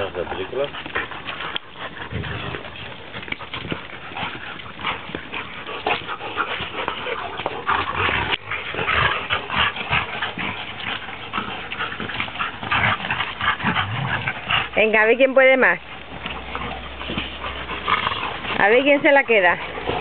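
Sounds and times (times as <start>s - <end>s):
dogs growling: 0.0s - 20.0s
dogs scuffling: 0.0s - 20.0s.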